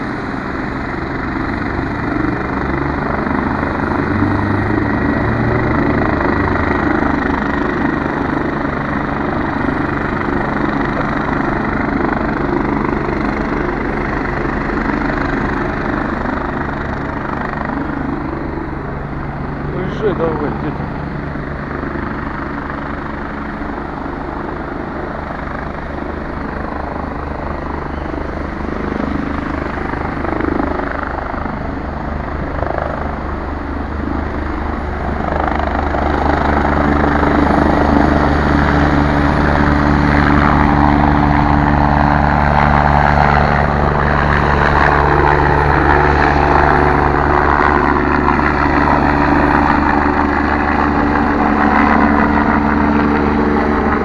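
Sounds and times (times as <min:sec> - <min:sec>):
helicopter engine whine: 0:00.0 - 0:54.0
helicopter rotor beating: 0:00.0 - 0:54.0.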